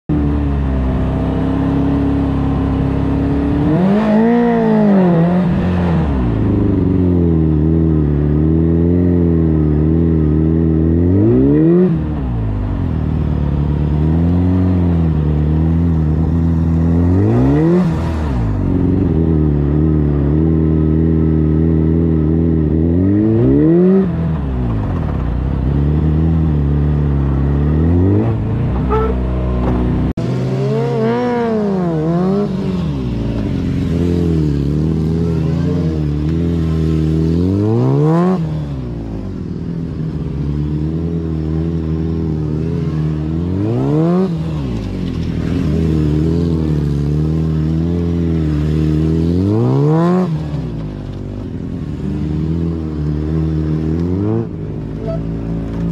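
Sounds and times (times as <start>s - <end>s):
motorcycle engine revving: 0.1s - 55.9s.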